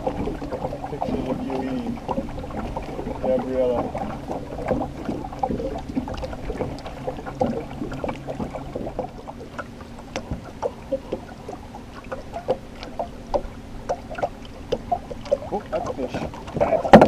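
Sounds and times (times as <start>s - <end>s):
small boat motor running: 0.0s - 17.0s
water lapping against hull: 0.0s - 17.0s.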